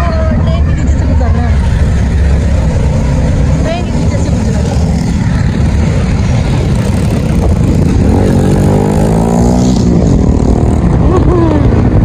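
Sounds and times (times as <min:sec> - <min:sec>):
motorbike engine rumbling: 0:00.0 - 0:12.0
wind buffeting microphone: 0:00.0 - 0:12.0.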